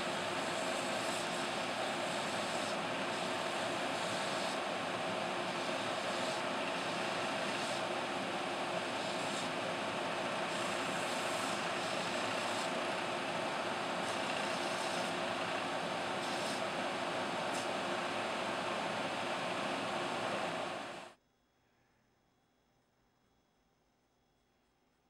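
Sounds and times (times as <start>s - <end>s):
belt sander running: 0.0s - 21.1s
grinding hiss: 0.0s - 21.1s.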